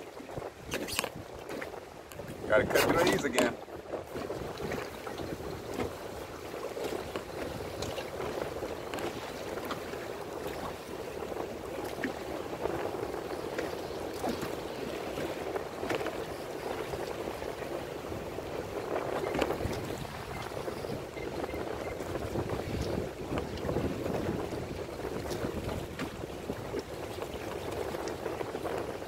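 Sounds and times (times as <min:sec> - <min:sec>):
rush of water and wind: 0:00.0 - 0:29.0.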